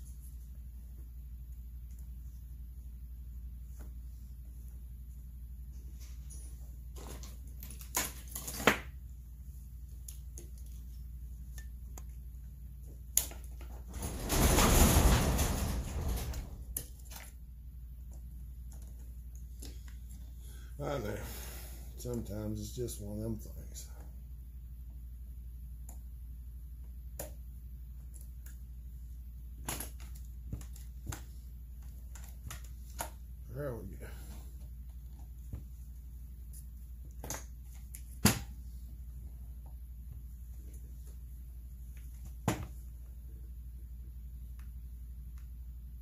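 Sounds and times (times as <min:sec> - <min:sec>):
steady low hum: 0:08.9 - 0:46.0.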